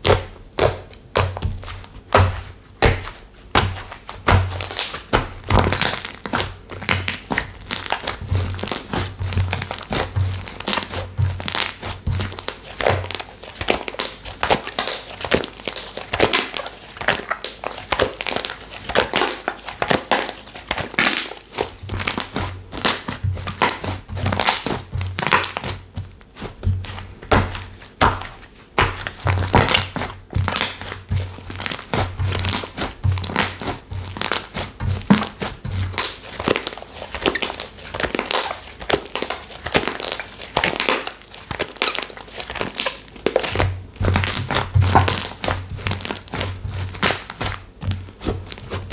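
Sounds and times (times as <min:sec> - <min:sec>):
slime squished by hand: 0:00.0 - 0:48.9.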